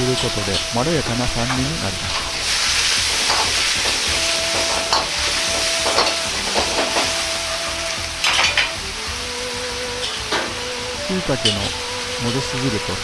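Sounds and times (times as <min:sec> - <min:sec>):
chicken sizzling in a wok: 0:00.0 - 0:13.0
metal ladle scraping wok: 0:00.1 - 0:08.9, 0:09.9 - 0:13.0.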